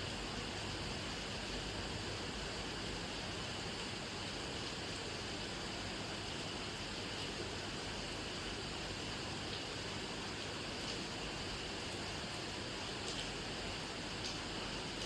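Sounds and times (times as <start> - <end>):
steady rainfall: 0.2 - 15.0.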